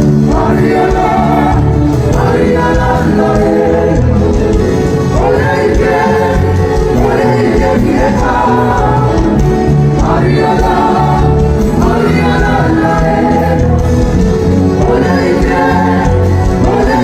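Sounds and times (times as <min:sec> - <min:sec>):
choir singing gospel music: 0:00.0 - 0:17.0.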